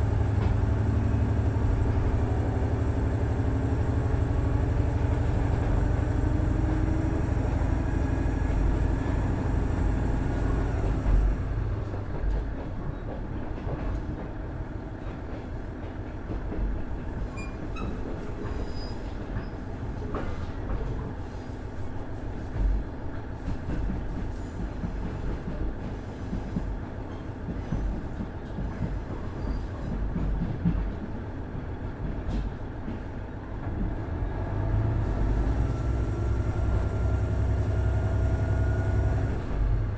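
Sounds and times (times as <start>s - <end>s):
diesel railcar engine: 0.0s - 39.9s
wheels rumbling on rails: 0.0s - 39.9s.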